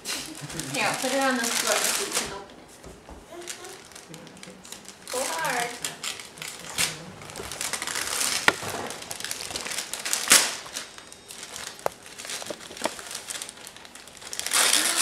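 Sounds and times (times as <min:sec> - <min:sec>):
wrapping paper crinkling and tearing: 0:00.2 - 0:02.4, 0:03.3 - 0:15.0.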